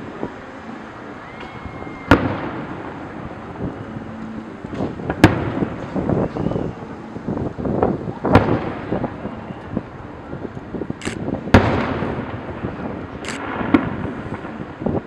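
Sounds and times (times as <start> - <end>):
fireworks bangs: 1.3 - 15.0
rolling booms and echoes: 1.4 - 10.0, 10.8 - 15.0.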